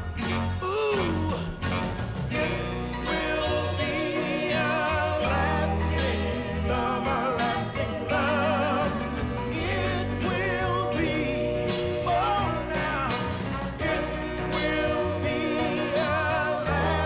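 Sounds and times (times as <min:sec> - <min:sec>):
slow love song with band: 0:00.0 - 0:17.0.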